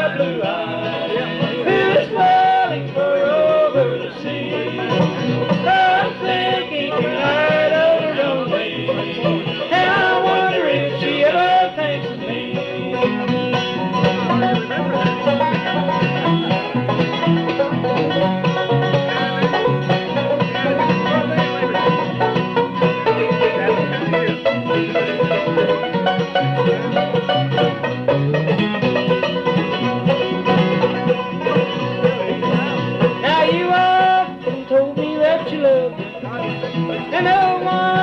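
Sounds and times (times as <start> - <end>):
banjo: 0.0 - 38.0
guitar: 0.0 - 38.0
upright bass: 0.0 - 38.0.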